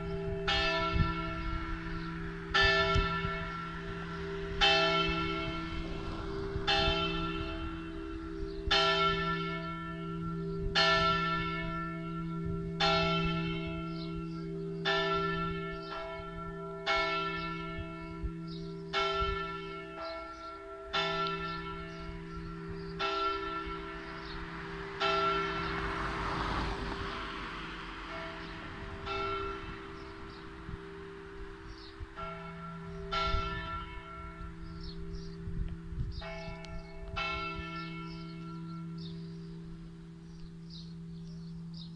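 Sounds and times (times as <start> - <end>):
large church bell tolling: 0.0 - 41.9.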